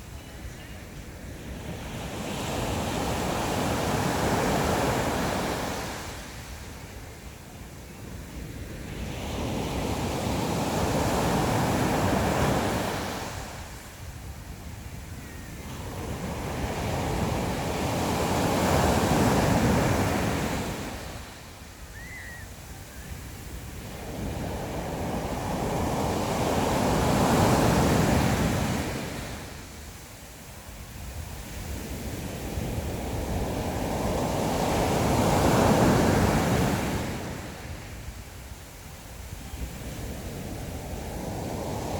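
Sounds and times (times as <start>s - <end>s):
sea waves on shore: 0.9s - 7.2s, 8.3s - 41.9s.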